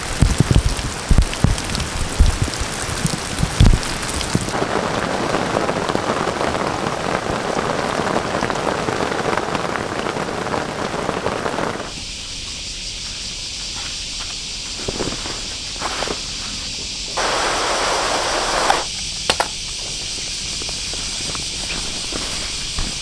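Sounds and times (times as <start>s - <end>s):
rain falling: 0.0s - 23.0s
steady high hiss: 0.0s - 23.0s.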